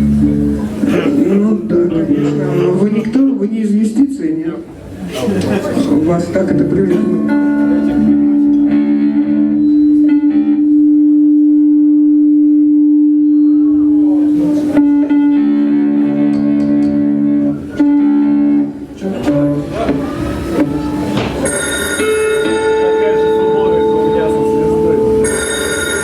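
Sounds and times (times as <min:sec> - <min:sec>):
guitar music: 0:00.0 - 0:03.5, 0:05.6 - 0:26.0.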